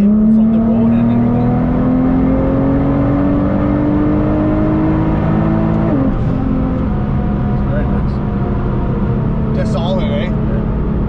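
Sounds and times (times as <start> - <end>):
car engine accelerating: 0.0 - 11.0
road noise: 0.0 - 11.0.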